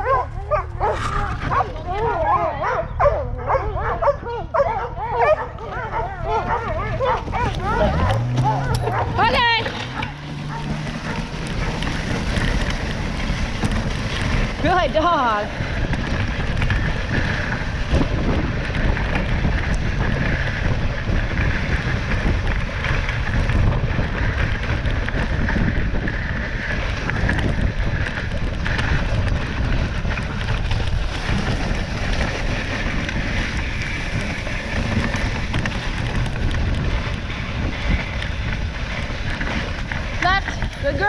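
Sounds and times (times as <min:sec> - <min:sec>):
sled runners sliding over snow: 0:00.0 - 0:41.0
wind buffeting microphone: 0:00.0 - 0:41.0.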